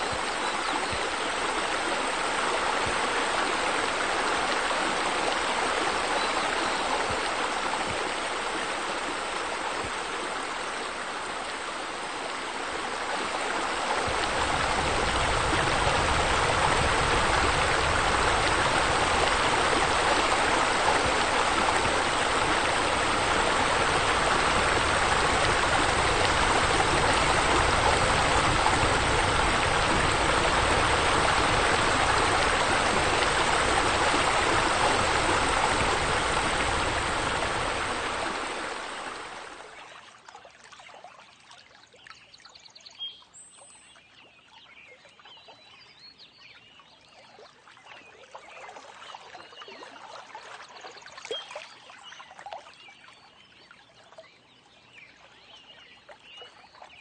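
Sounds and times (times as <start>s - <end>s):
water splashing into a pool: 0.0s - 42.1s, 47.2s - 54.4s.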